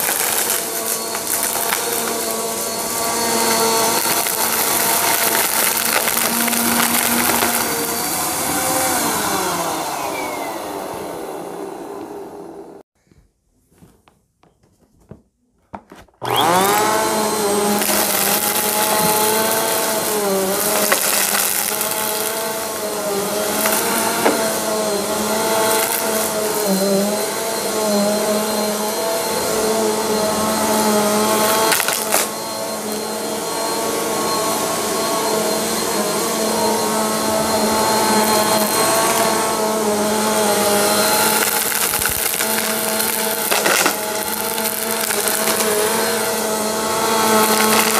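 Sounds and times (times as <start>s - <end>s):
debris rattling in vacuum: 0.0s - 10.0s, 16.2s - 47.9s
vacuum cleaner motor running: 0.0s - 12.9s, 16.2s - 47.9s.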